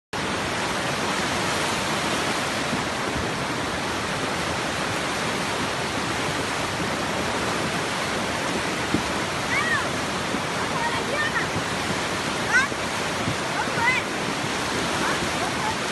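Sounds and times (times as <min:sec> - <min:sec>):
rushing flood river: 0:00.2 - 0:15.9.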